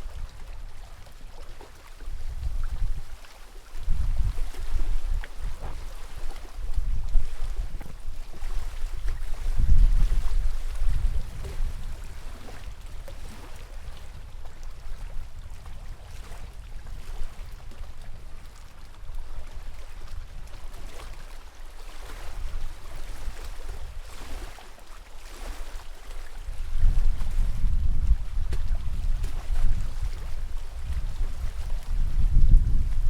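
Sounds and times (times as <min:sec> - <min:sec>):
wind rumbling on microphone: 0:00.0 - 0:24.7, 0:25.3 - 0:33.0
lake water lapping and splashing: 0:00.0 - 0:33.0.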